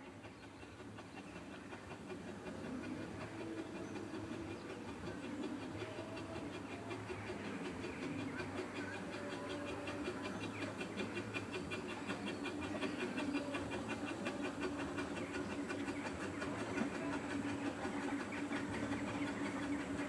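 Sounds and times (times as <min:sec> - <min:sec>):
steam hissing: 0:00.0 - 0:20.0
steam locomotive chuffing: 0:00.0 - 0:20.0.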